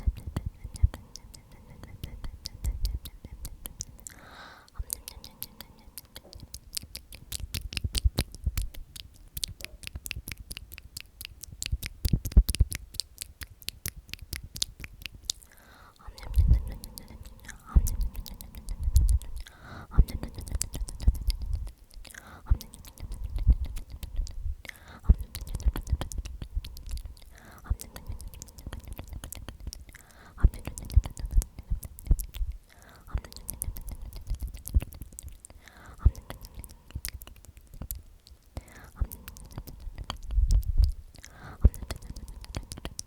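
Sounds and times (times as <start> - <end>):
person whispering: 0.0 - 11.5, 14.6 - 43.0
wet mouth clicks: 0.0 - 43.0.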